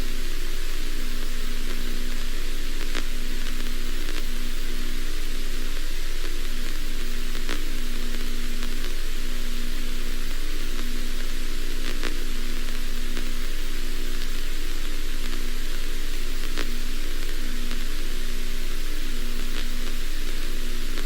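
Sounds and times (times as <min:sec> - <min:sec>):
electrical hum: 0:00.0 - 0:21.0
static hiss: 0:00.0 - 0:21.0.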